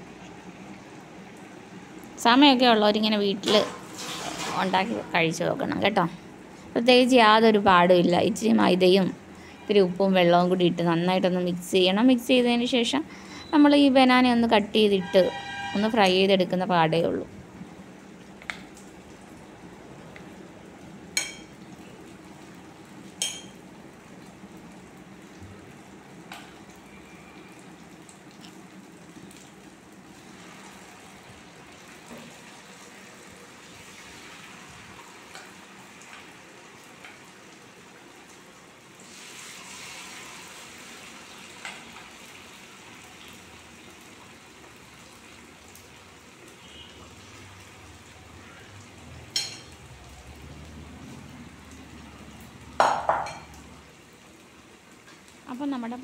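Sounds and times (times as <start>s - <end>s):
deep-frying sizzle in oil: 0.0s - 56.0s.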